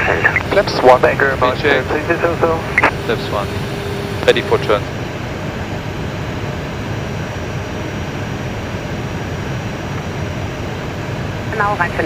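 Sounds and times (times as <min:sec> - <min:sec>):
cockpit airflow and engine noise: 0:00.0 - 0:12.0.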